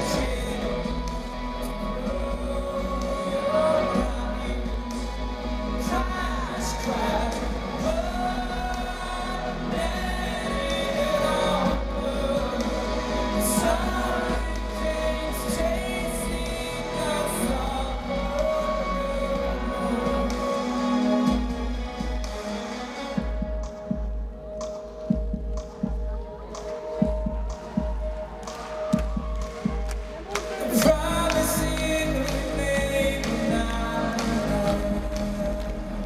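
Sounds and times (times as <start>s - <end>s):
person singing: 0.0s - 23.8s, 25.0s - 36.0s.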